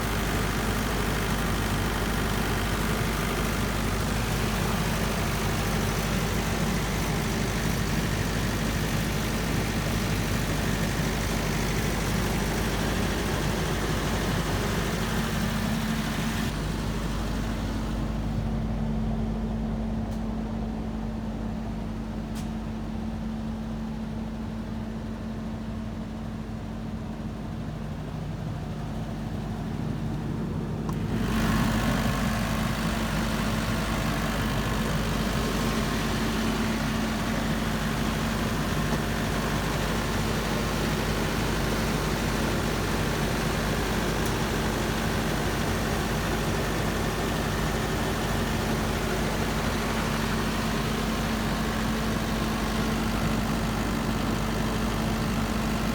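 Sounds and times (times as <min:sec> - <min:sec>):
diesel generator running: 0:00.0 - 0:55.9.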